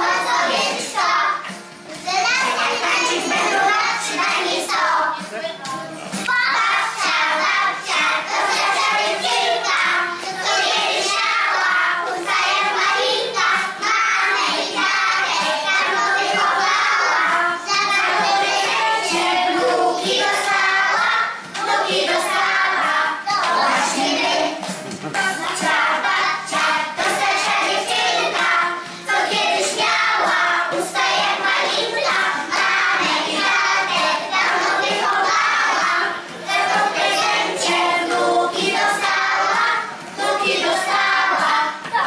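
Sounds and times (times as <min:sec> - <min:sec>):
children singing: 0:00.0 - 0:42.0
musical accompaniment: 0:00.0 - 0:42.0.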